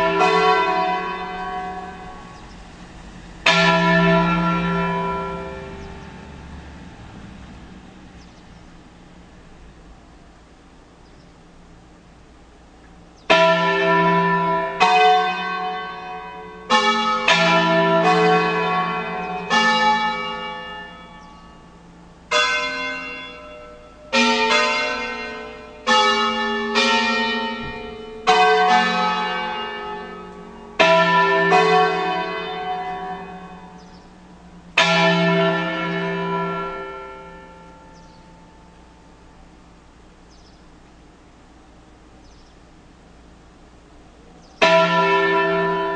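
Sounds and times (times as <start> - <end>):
church bells ringing slow tune: 0.0 - 10.7, 12.7 - 45.9.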